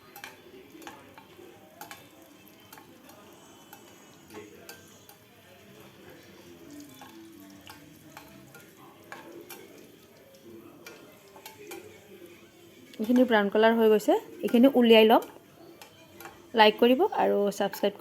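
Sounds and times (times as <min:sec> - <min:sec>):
nuts sizzling in hot oil: 0:00.0 - 0:18.0
spatula stirring and tapping pan: 0:00.0 - 0:18.0.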